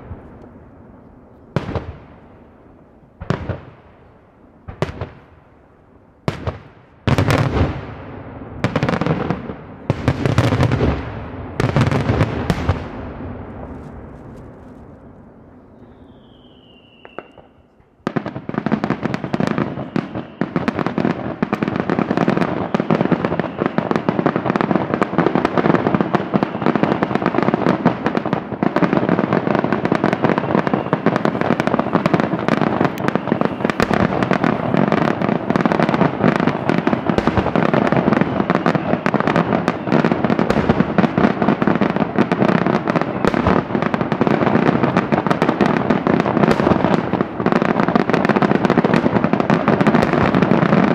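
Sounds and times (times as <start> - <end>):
fireworks bangs crackling: 0.0 - 50.9.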